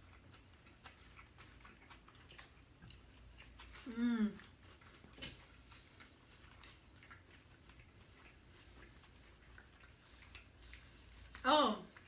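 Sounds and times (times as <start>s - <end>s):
soft chewing clicks: 0.0s - 12.0s.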